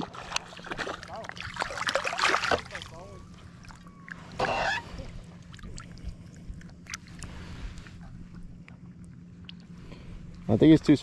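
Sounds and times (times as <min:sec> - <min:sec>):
water lapping and dripping: 0:00.0 - 0:10.5
steady low hum: 0:00.0 - 0:11.0.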